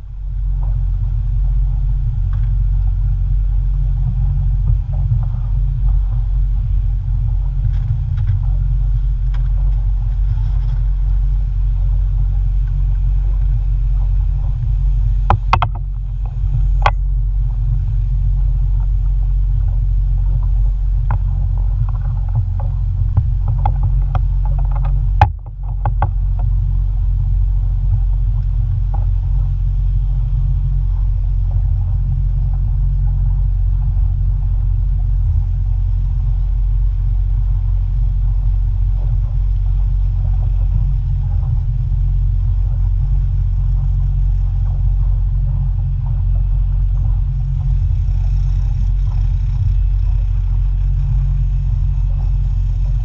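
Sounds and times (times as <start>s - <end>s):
motorboat engine rumbling: 0.0s - 53.0s.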